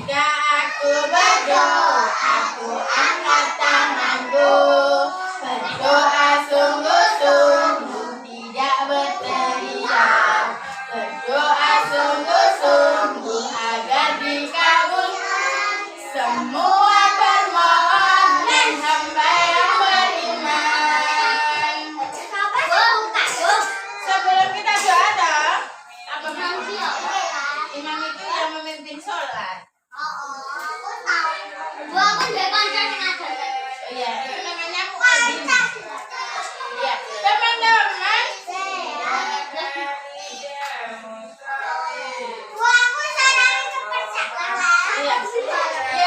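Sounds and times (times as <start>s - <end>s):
children singing: 0.0s - 28.3s, 30.0s - 46.0s.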